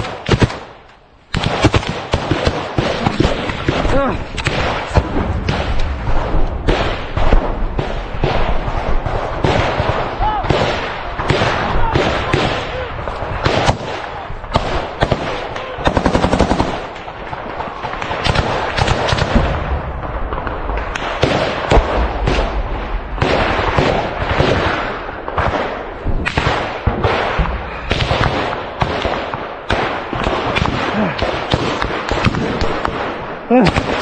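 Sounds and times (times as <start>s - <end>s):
small-arms gunfire: 0.0s - 22.6s, 23.2s - 34.0s.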